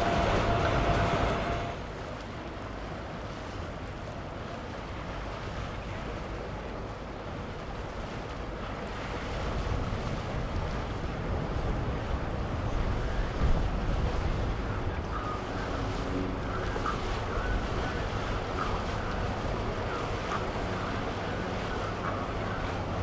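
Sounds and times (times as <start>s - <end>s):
boat engine rumble: 0.0s - 23.0s
hull wash through water: 0.0s - 23.0s
wind buffeting microphone: 0.0s - 23.0s.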